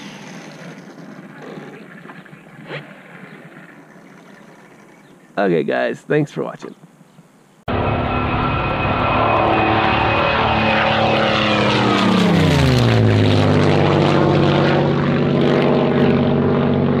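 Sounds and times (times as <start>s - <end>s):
aircraft engine drone flying past: 0.0s - 5.1s, 7.7s - 17.0s.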